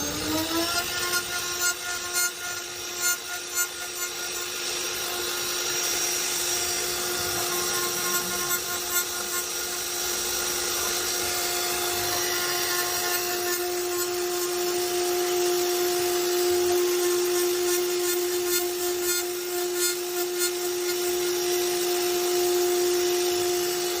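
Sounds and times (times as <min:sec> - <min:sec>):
cutting noise of wood: 0:00.0 - 0:24.0
router spindle whining: 0:00.0 - 0:24.0.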